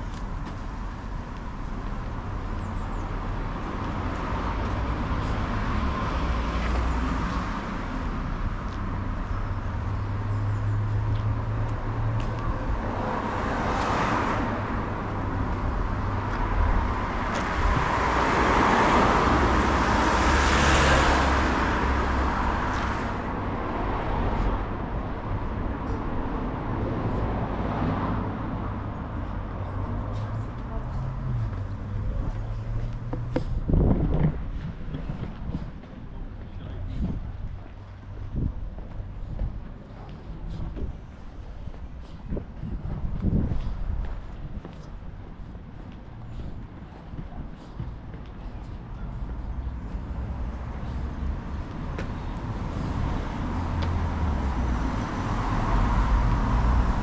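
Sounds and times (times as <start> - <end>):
cars passing: 0.0 - 57.0
low traffic rumble: 0.0 - 57.0.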